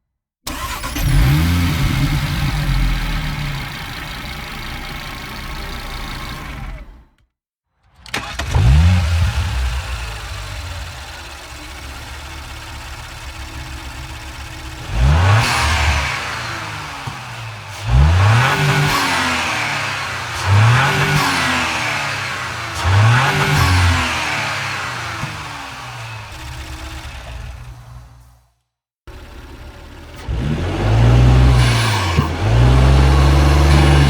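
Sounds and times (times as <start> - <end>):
car engine revving: 0.5 - 6.9, 8.2 - 28.3, 29.1 - 34.0.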